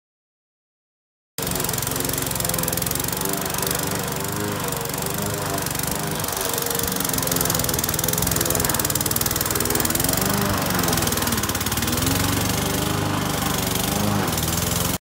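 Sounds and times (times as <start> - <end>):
lawn mower cutting grass: 1.4 - 15.0.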